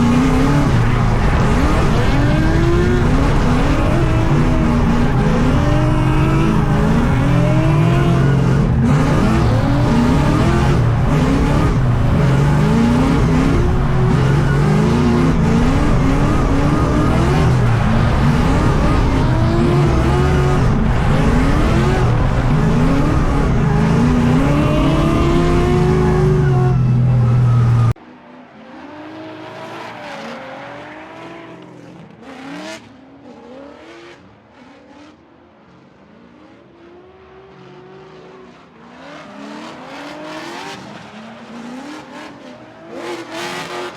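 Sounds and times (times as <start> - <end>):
car engines revving hard: 0.0 - 43.9.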